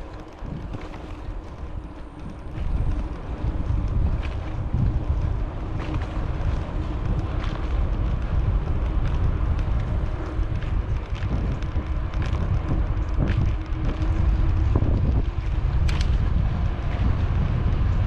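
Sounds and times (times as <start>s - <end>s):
bicycle rolling on trail: 0.0s - 18.0s
small clicks and rattles: 0.0s - 18.0s
wind buffeting microphone: 0.0s - 18.0s.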